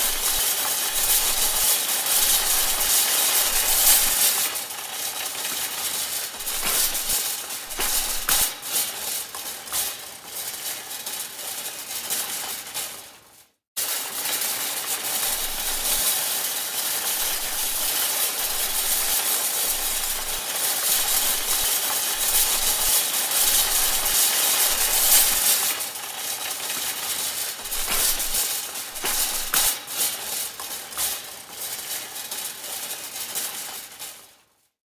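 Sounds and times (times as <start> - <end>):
shopping cart rattling: 0.0 - 34.5.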